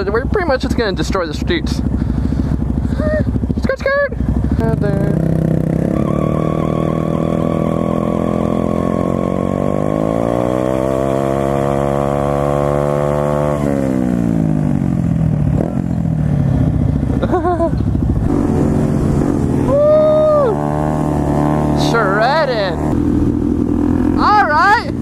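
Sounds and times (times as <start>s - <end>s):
motorbike engine revving: 0.0s - 25.0s.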